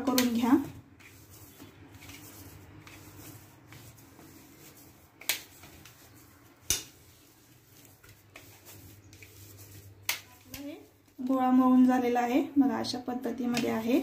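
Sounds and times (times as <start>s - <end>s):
dough squishing: 0.0s - 12.2s.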